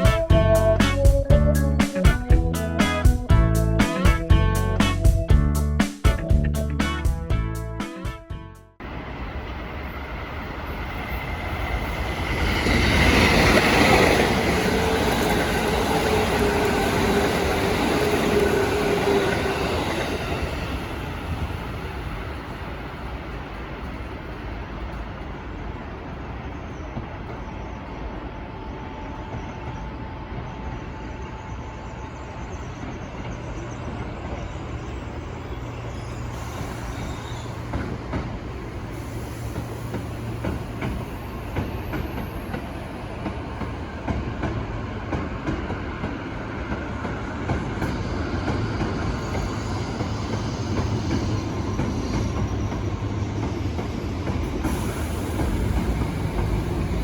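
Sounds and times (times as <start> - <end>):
train wheels on rails: 8.8 - 57.0.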